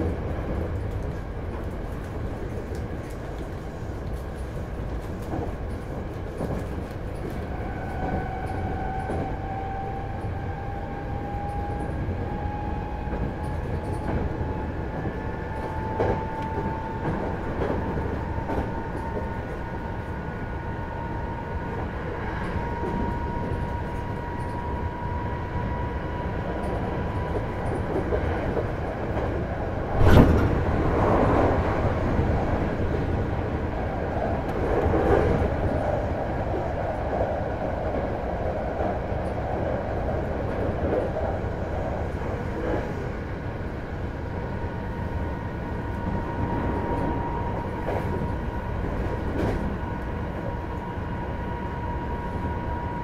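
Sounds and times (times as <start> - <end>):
train wheel rumble on rails: 0.0 - 53.0.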